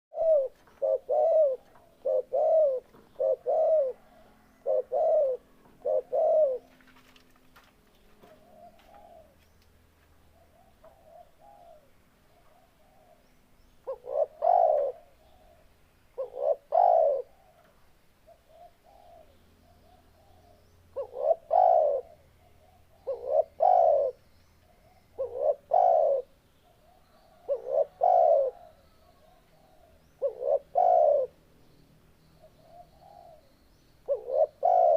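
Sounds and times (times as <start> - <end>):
dove cooing: 0.1 - 7.2, 8.2 - 9.4, 10.3 - 31.4, 32.4 - 34.9.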